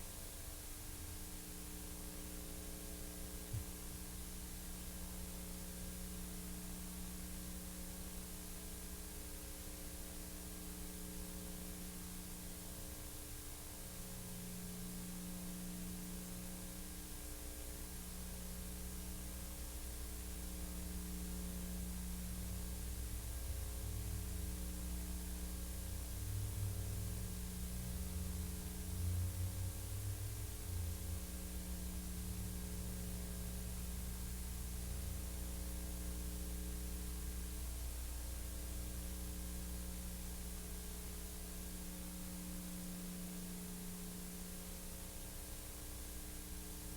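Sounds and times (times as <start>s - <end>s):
low electrical hum: 0.0s - 46.9s.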